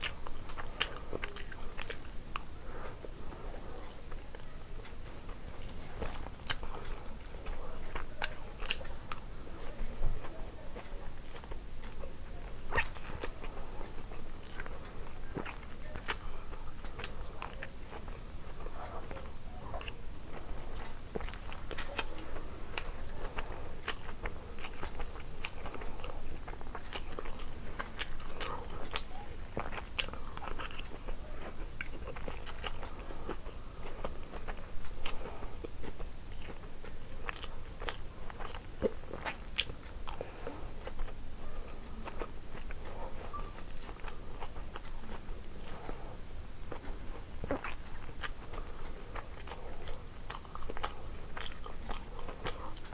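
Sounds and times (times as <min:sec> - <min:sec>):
person biting and chewing food: 0:00.0 - 0:03.0, 0:05.6 - 0:09.3, 0:12.7 - 0:41.2, 0:41.8 - 0:46.0, 0:46.7 - 0:52.9.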